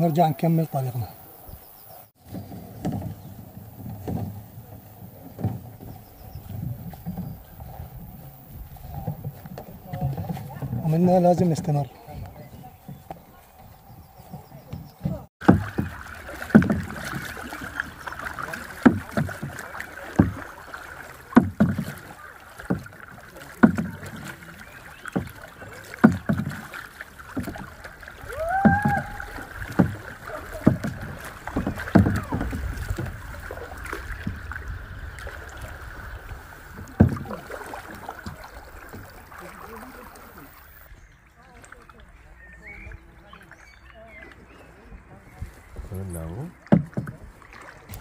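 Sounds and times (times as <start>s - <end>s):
paddles dipping through water: 0.0s - 48.0s.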